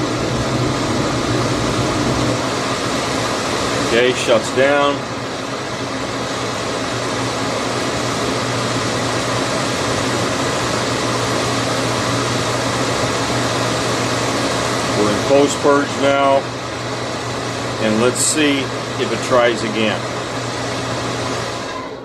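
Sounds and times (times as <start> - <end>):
furnace fan humming: 0.0 - 22.0.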